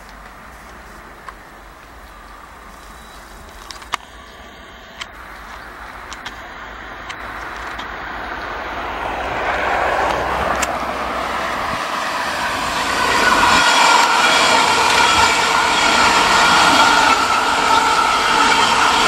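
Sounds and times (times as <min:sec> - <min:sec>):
electric train approaching: 0:00.0 - 0:19.0.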